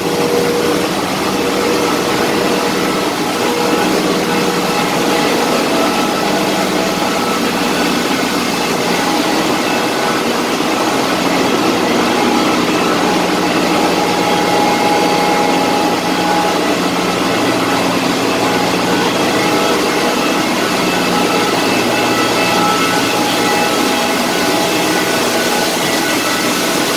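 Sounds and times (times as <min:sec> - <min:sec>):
engine room machinery rumble: 0:00.0 - 0:26.9.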